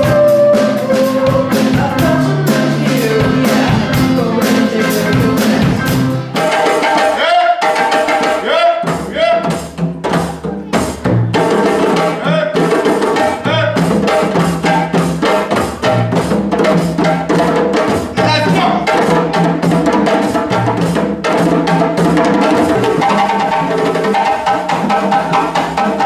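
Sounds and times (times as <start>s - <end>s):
djembes playing: 0.0s - 26.0s.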